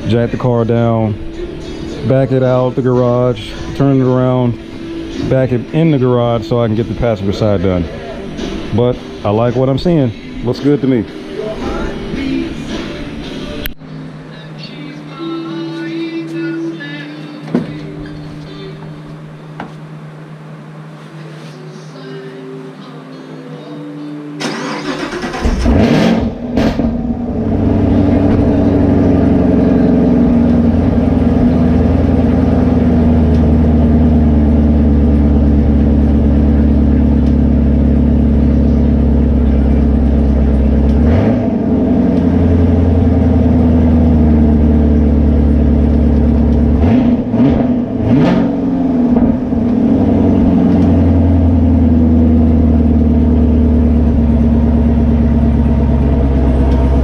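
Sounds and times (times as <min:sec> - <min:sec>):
car engine starting and idling: 0:00.0 - 0:21.9, 0:24.3 - 0:57.0.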